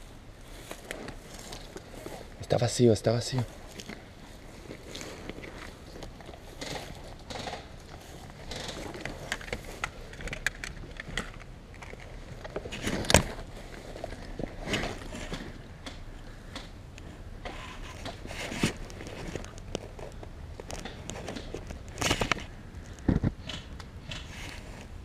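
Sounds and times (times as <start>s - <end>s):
gear rustling: 0.0s - 25.0s.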